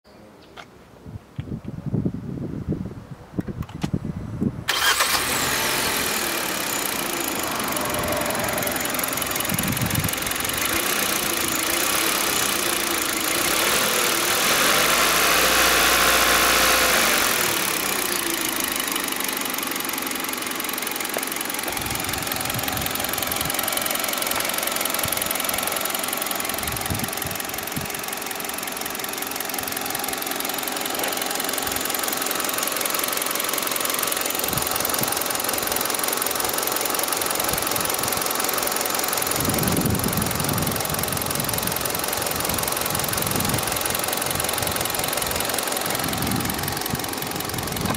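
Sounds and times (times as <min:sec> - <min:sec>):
car engine idling: 0:04.7 - 0:47.9.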